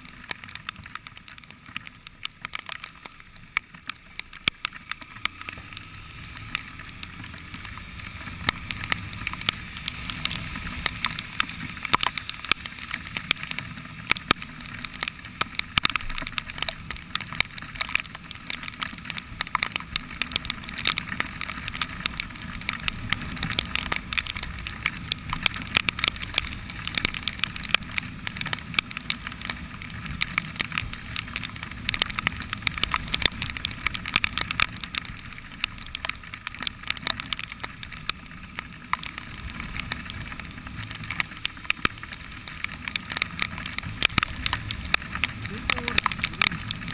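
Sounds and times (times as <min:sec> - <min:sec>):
motorcycle engine rumble: 0:00.0 - 0:46.9
raindrops hitting camera: 0:00.0 - 0:46.9
tyres hissing on wet asphalt: 0:00.0 - 0:46.9.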